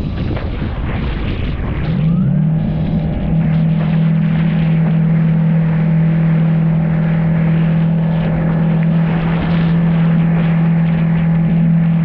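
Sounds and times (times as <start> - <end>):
jet ski engine drone: 0.0 - 12.0
water spraying past hull: 0.0 - 12.0.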